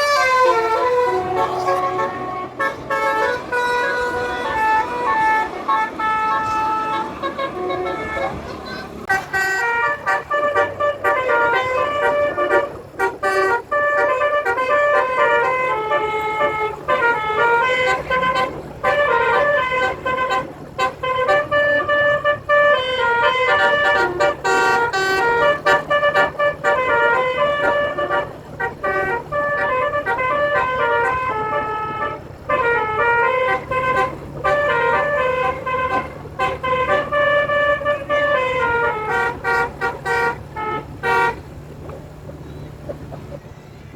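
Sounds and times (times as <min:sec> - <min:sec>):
multi-tone horn melody: 0:00.0 - 0:41.8.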